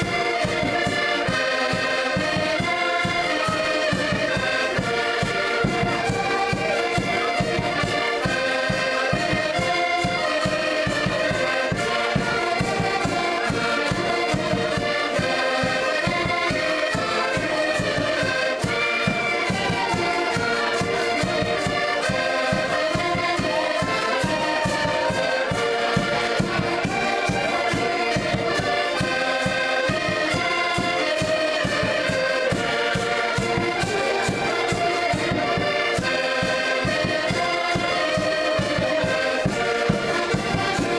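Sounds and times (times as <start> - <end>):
accordion ensemble playing: 0.0 - 40.9.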